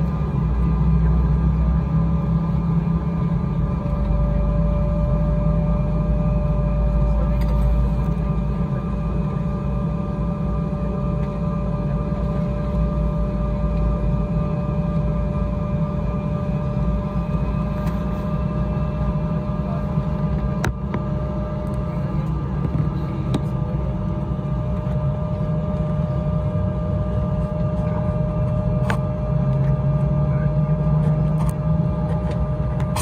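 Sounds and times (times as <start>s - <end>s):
airliner cabin rumble: 0.0s - 33.0s
constant cabin whine: 0.0s - 33.0s.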